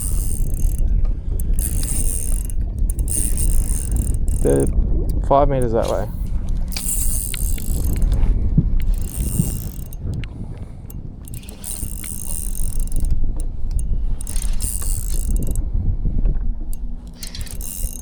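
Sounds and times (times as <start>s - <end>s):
fishing reel whirring and clicking: 0.0s - 18.0s.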